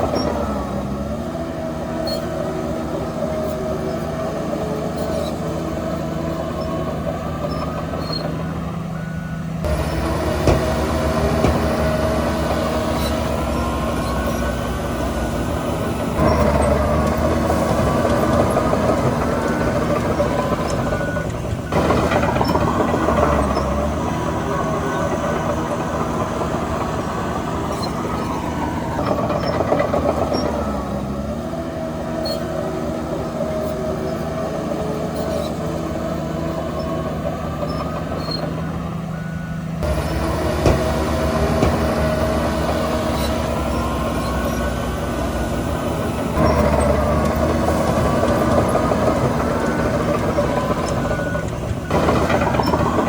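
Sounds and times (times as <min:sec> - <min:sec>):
heavy machinery diesel engines: 0:00.0 - 0:53.0.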